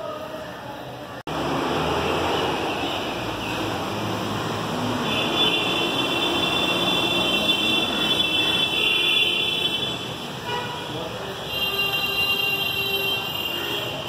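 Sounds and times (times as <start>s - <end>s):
road traffic din: 0.0s - 14.0s.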